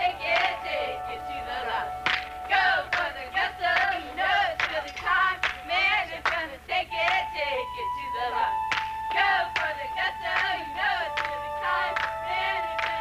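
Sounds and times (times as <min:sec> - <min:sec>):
voices singing: 0:00.0 - 0:13.0.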